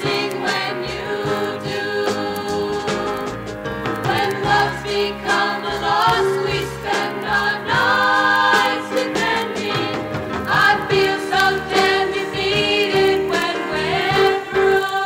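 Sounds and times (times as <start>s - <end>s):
female vocal group singing: 0.0s - 3.4s, 4.1s - 15.0s.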